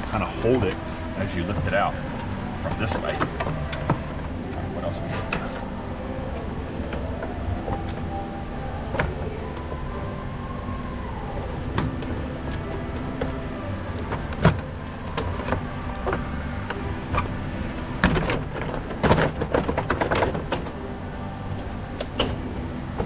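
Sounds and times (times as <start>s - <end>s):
plastic and metal parts knocking: 0.0s - 10.1s, 11.7s - 23.0s
steady background hum: 0.0s - 23.0s.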